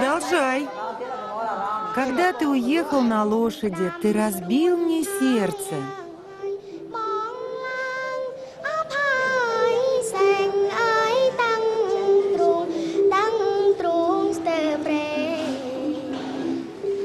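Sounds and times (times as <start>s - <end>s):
girl singing: 1.8s - 16.6s.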